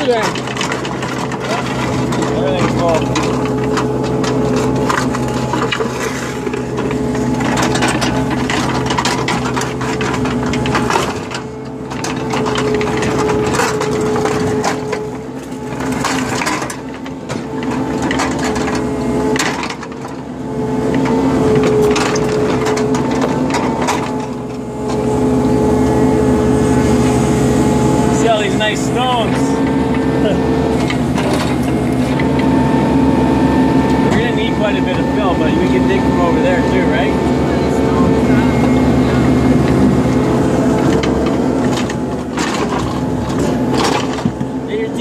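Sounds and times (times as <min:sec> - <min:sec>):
excavator engine running: 0:00.0 - 0:45.0
rocks and dirt crunching: 0:00.0 - 0:45.0.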